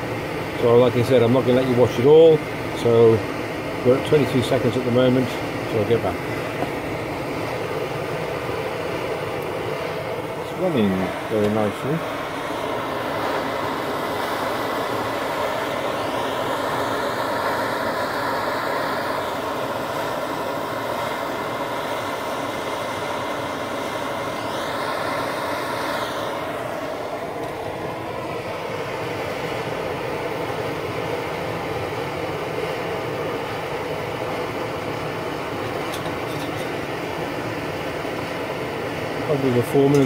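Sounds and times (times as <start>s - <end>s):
stove burner rushing: 0.0s - 40.0s.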